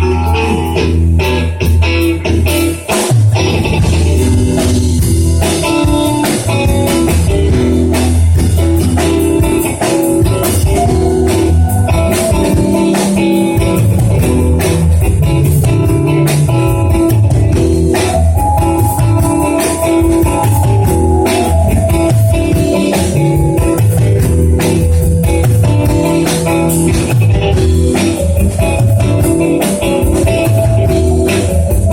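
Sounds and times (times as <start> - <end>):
instrumental band music: 0.0 - 31.9.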